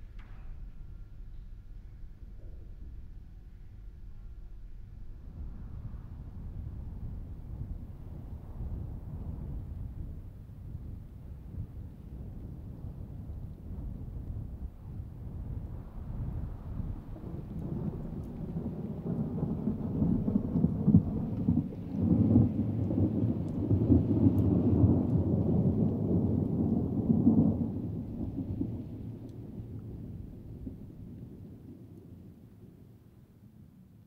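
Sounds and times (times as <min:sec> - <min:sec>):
rolling thunder: 0:04.9 - 0:33.8.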